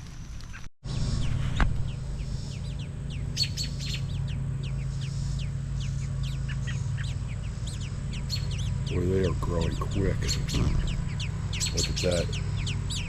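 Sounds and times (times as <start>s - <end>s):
birds chirping: 0.4s - 13.0s
steady low hum: 0.8s - 13.0s.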